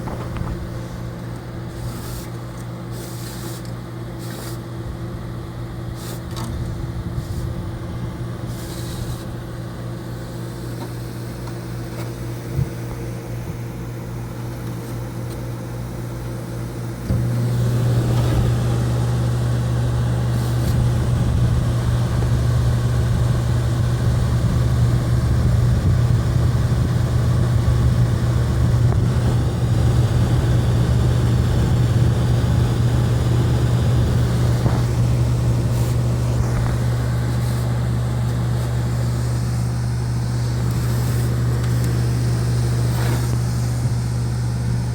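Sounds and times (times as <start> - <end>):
air conditioner humming: 0.0 - 44.9.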